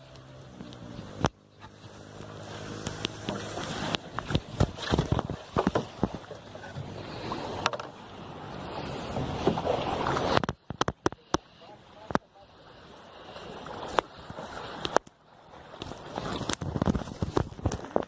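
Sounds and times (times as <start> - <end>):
paddle splashes: 0.0 - 18.0
rush of water: 0.0 - 18.0.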